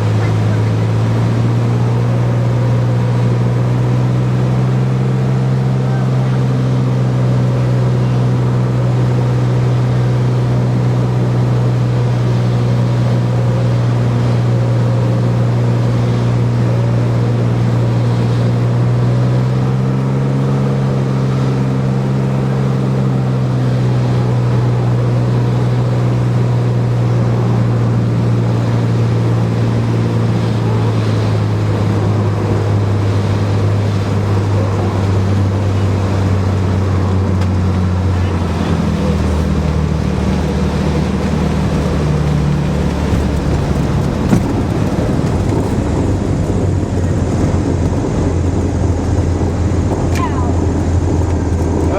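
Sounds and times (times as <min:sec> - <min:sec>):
propeller plane engine drone: 0:00.0 - 0:51.9.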